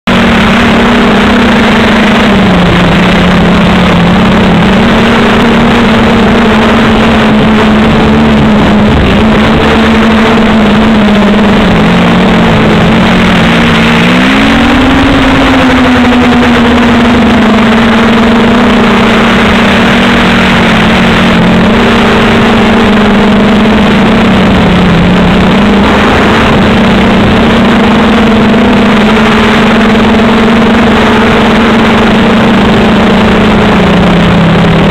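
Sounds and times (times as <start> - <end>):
airflow rushing: 0.0 - 34.9
drone motors humming: 0.0 - 34.9.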